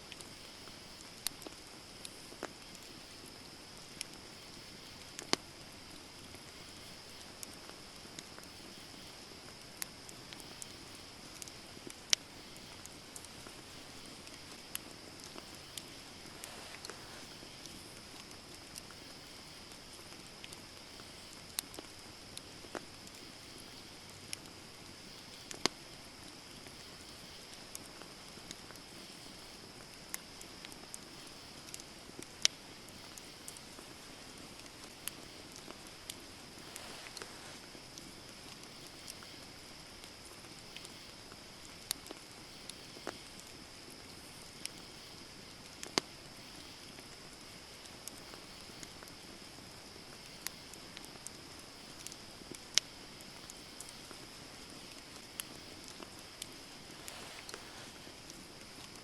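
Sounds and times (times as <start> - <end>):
campfire hissing: 0.0 - 59.0
fire pops and crackles: 0.0 - 59.0.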